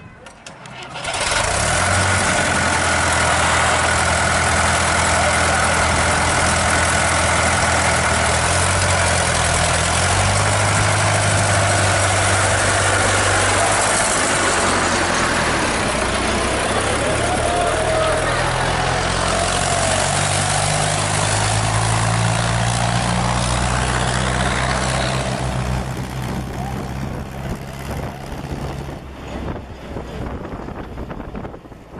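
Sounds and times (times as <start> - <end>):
tractor engine running: 0.1 - 31.9.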